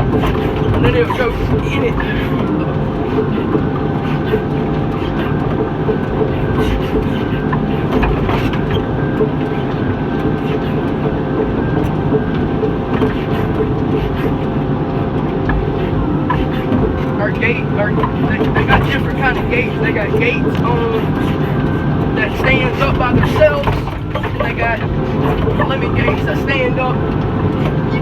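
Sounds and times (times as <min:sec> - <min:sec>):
diesel engine running: 0:00.0 - 0:28.0
machine clanks and rattles: 0:00.0 - 0:28.0.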